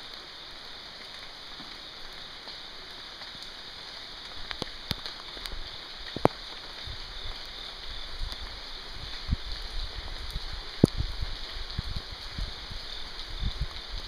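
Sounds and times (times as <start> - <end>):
rain on wet street: 0.0 - 14.0.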